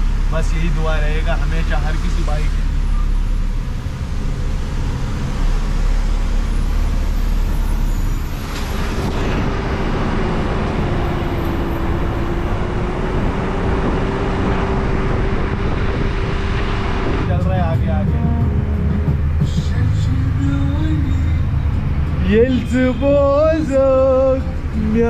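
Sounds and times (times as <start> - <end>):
road and tyre noise: 0.0 - 25.0
truck engine running: 0.0 - 25.0.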